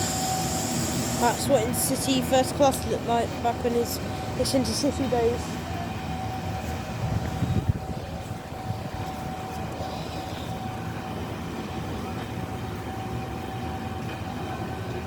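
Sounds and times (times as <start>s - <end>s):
thin whine: 0.0s - 15.0s
train engine humming: 0.0s - 15.0s.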